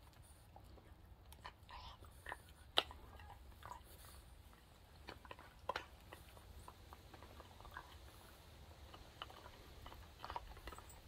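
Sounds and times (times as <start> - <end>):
dogs gnawing on chew toys: 0.0 - 11.0.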